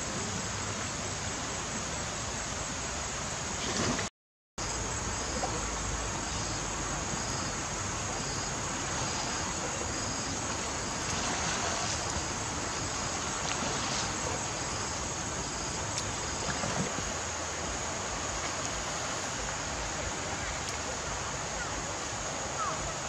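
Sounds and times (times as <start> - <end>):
continuous high whine: 0.0 - 23.0
steady rushing outdoor noise: 0.0 - 23.0.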